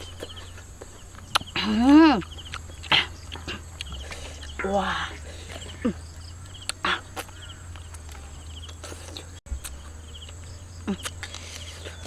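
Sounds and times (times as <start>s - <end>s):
insects chirping in trills: 0.0s - 12.0s
low steady hum: 0.0s - 12.0s.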